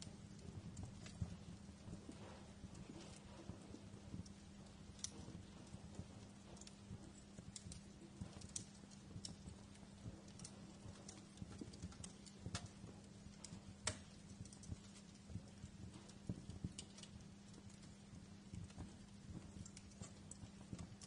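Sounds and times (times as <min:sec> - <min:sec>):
faint steady hum: 0:00.0 - 0:21.0
wood fire crackling: 0:00.0 - 0:21.0.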